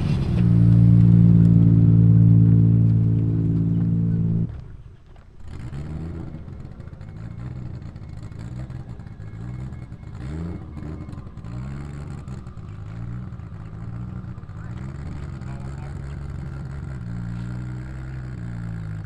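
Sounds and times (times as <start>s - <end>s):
car engine idling lumpily: 0.0s - 19.0s.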